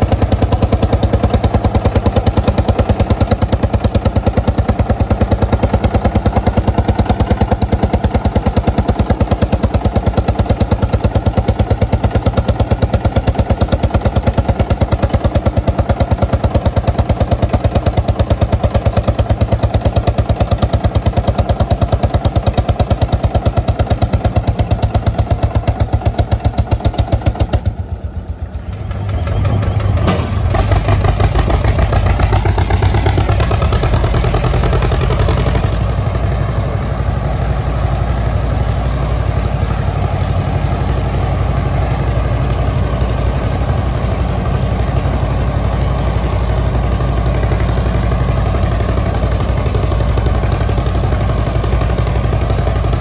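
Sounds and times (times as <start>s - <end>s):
deeper engine beat: 0.0s - 53.0s
tractor engine running: 0.0s - 53.0s.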